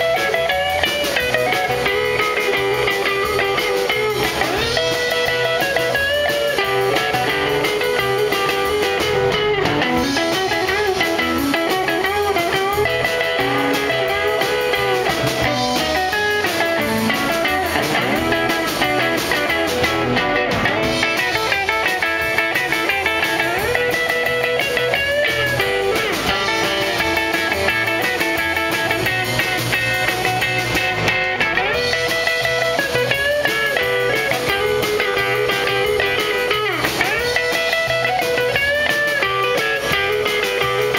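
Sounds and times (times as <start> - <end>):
drums: 0.0 - 40.9
electric guitar lead lines: 0.0 - 40.9
second guitar: 0.0 - 40.9.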